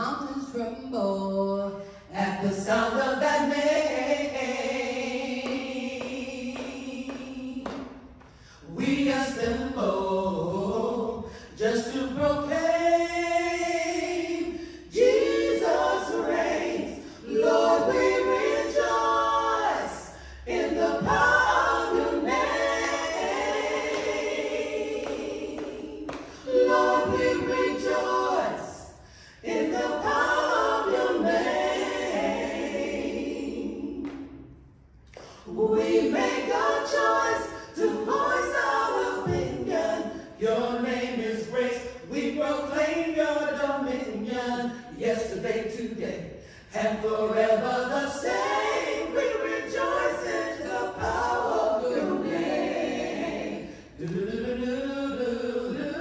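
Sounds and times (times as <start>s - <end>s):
mixed voices singing a cappella: 0.0s - 56.0s.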